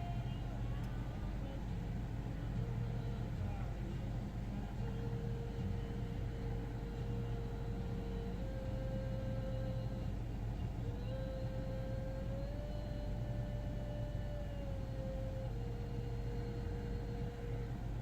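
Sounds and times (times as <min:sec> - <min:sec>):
mechanical hum with whine: 0:00.0 - 0:18.0.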